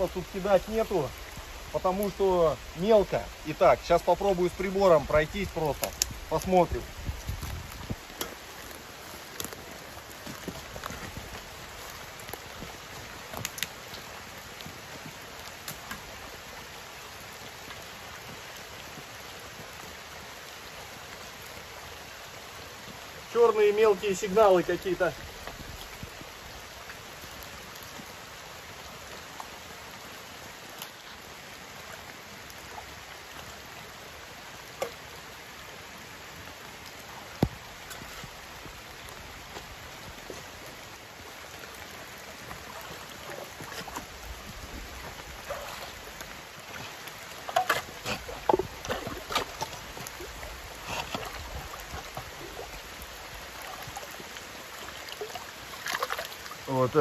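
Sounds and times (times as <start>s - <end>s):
water splashing: 0.0s - 19.9s, 30.4s - 57.0s
shallow stream trickling: 0.0s - 57.0s.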